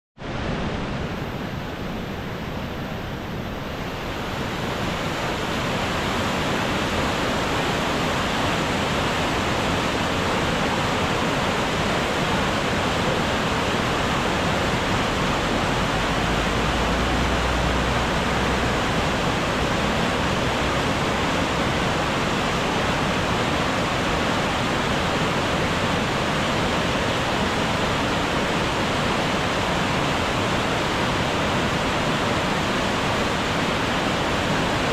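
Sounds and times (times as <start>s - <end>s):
waterfall rushing over rocks: 0.2s - 34.9s.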